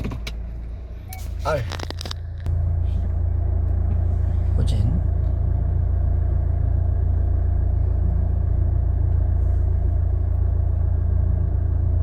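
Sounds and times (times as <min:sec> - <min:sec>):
car reversing rumble: 0:00.0 - 0:12.0.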